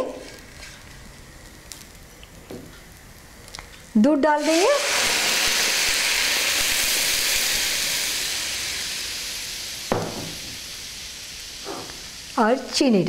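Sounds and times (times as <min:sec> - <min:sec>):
hissing and sizzling: 0:00.0 - 0:13.0.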